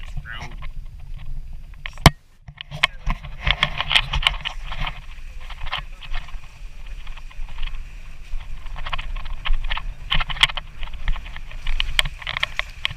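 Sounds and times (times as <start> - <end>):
car road rumble: 0.0 - 12.9
tyres crackling on loose stones: 0.0 - 12.9.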